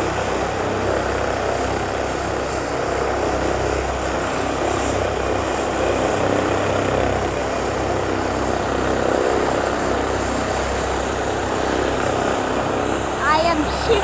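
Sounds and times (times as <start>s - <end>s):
helicopter rotor roaring: 0.0s - 14.0s.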